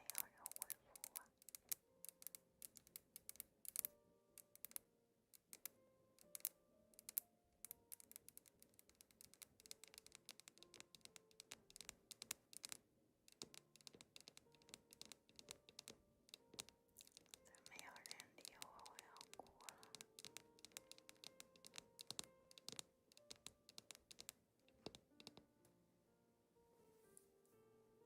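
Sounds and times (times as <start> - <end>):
sharp light clicks and taps: 0.0 - 25.5
soft background music: 0.0 - 28.0.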